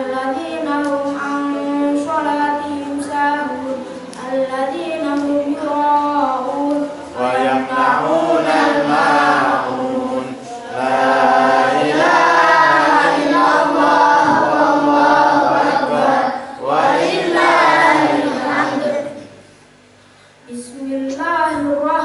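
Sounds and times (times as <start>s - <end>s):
boy chanting through microphone: 0.0s - 19.4s.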